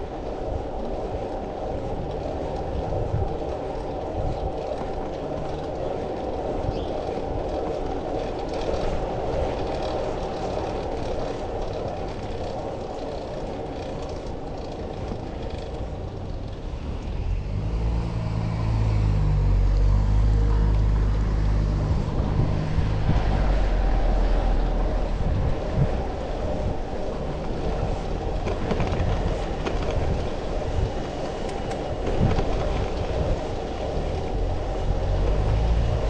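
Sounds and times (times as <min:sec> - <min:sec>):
large vehicle engine rumble: 0:00.0 - 0:36.0
road traffic noise: 0:00.0 - 0:36.0.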